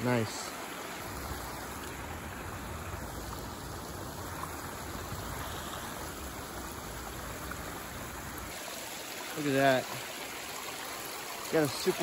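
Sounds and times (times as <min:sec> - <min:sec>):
water rushing through dam: 0:00.0 - 0:12.0.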